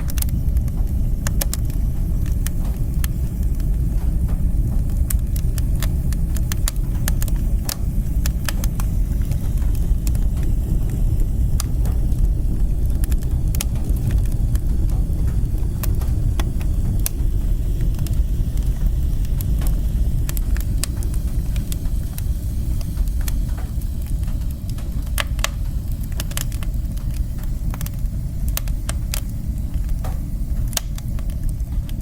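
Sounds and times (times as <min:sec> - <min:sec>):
low rumble of fire: 0:00.0 - 0:32.0
wood fire crackling and popping: 0:00.0 - 0:32.0.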